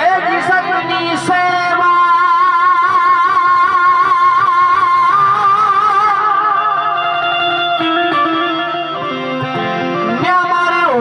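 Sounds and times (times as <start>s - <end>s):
instrumental melody: 0.0s - 11.0s.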